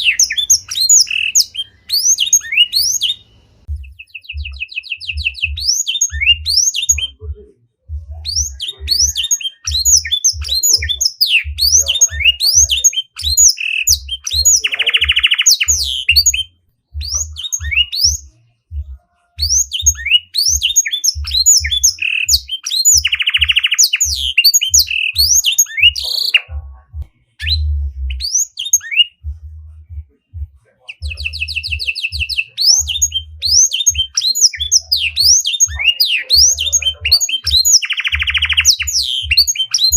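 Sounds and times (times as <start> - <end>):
long buzzy bird trill: 0.0 - 26.8, 27.4 - 30.0, 30.8 - 39.9
songbird chattering song: 0.0 - 39.9.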